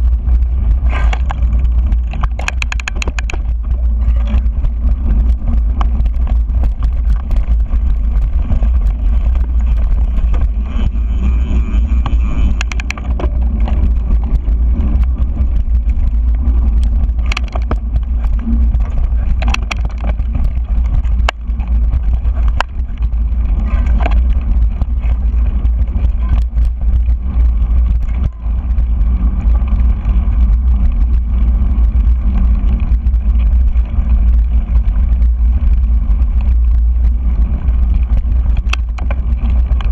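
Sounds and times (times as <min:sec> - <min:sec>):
bike rattling over rough trail: 0:00.0 - 0:39.9
wind rumble on microphone: 0:00.0 - 0:39.9.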